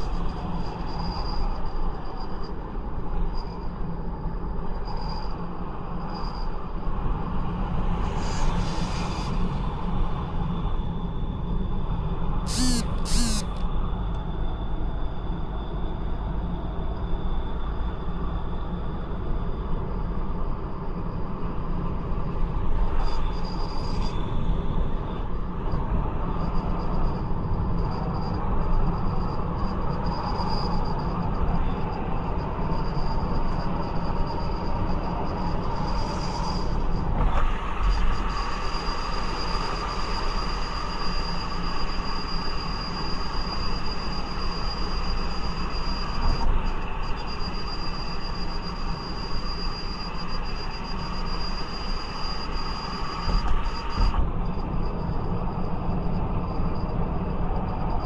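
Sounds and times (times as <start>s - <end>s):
high-pitched whine: 0.0s - 58.0s.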